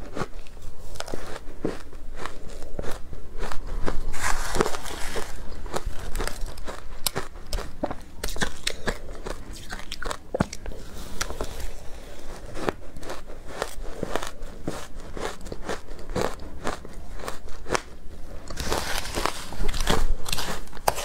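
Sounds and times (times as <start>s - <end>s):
ice crunching being chewed: 0.0s - 21.0s.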